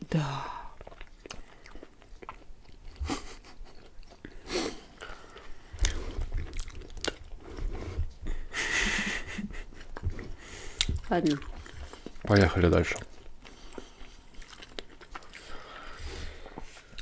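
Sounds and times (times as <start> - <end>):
chewing and biting pastry: 0.7 - 8.2, 9.8 - 17.0.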